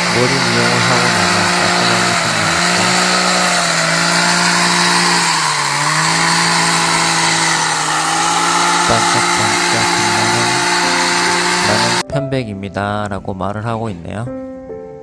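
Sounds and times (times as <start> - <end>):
hedge trimmer running: 0.0 - 12.0.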